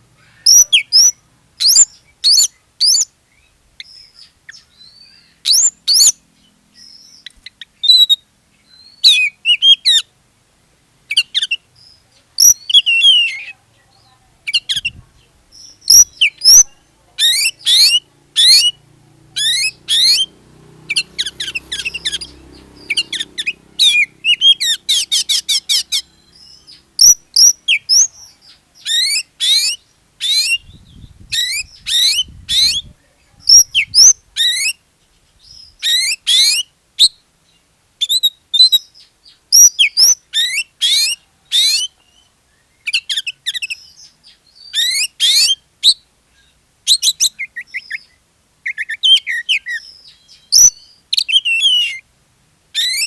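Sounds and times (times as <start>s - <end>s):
songbird singing whistled notes: 0.1s - 10.1s, 11.1s - 52.1s, 52.8s - 53.0s.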